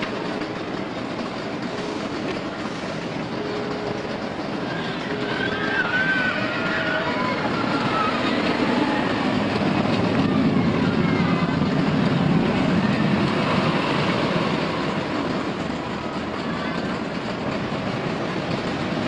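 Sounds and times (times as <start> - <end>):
roller coaster rumbling on track: 0.0 - 19.0.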